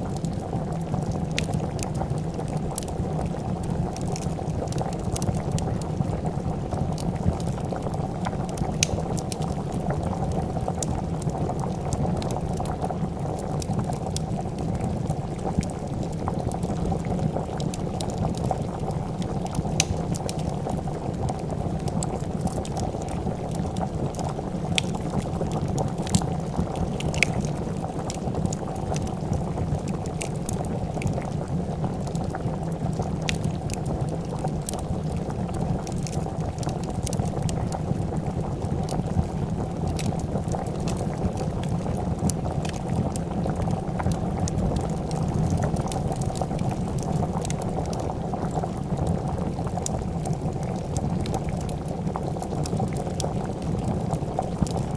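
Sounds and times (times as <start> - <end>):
soup boiling: 0.0 - 54.9
wood fire crackling: 0.0 - 54.9.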